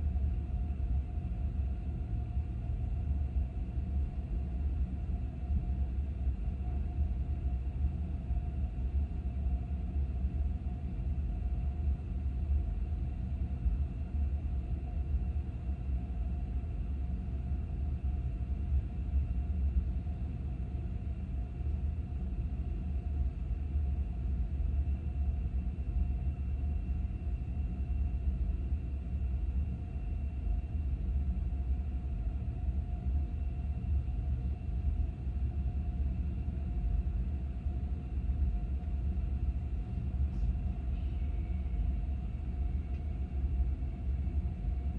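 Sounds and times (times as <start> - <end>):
faint hum tones: 0.0 - 44.9.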